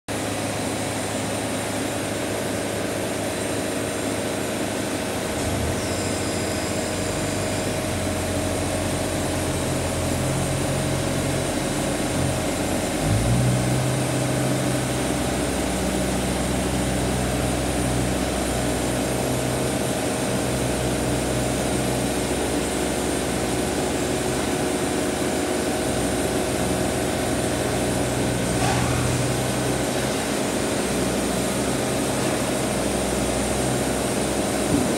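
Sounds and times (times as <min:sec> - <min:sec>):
band sawmill running: 0:00.1 - 0:34.9.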